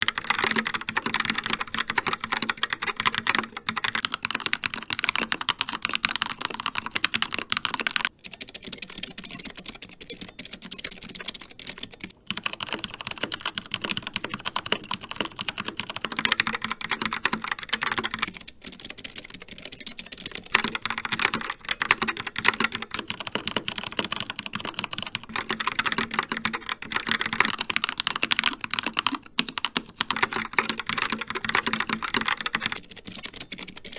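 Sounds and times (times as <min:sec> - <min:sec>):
fast typing on mechanical keyboard: 0:00.0 - 0:33.9.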